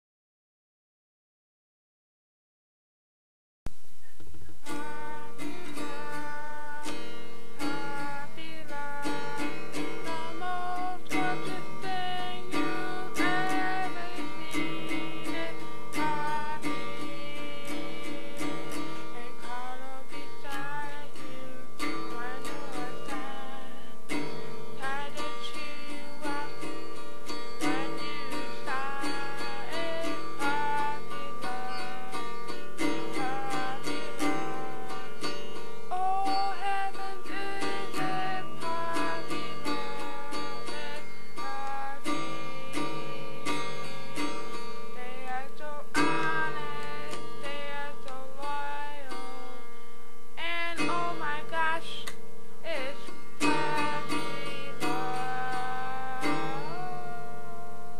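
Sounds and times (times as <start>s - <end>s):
acoustic guitar strumming: 4.0s - 57.9s
person singing: 4.0s - 57.9s.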